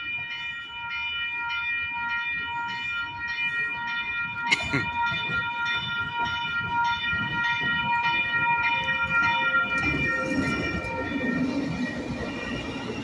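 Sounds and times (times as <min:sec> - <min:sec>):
light rail train high-pitched whine: 0:00.0 - 0:13.0
train low rumble: 0:01.9 - 0:13.0.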